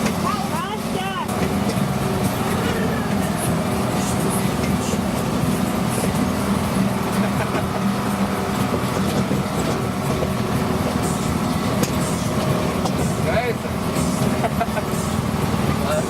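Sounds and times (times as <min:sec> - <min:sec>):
ride train engine droning: 0:00.0 - 0:16.0.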